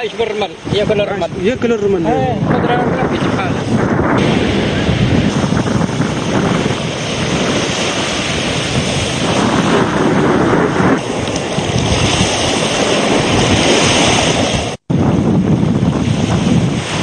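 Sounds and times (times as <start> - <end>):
sea waves washing ashore: 0.0 - 17.0
wind buffeting microphone: 0.0 - 17.0.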